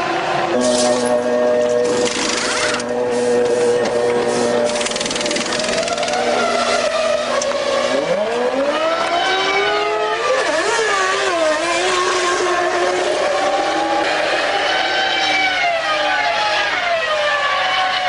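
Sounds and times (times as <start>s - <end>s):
racing car engine revving: 0.0s - 16.9s.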